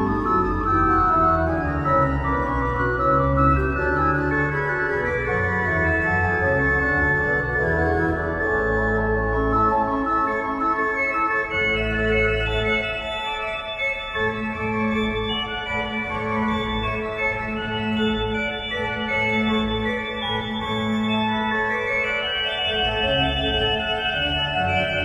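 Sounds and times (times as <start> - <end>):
organ playing slow chords: 0.0 - 25.0.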